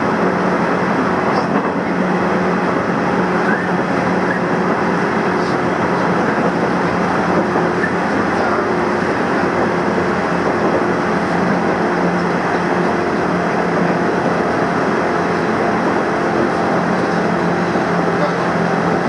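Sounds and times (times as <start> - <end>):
train running noise from inside: 0.0 - 19.0.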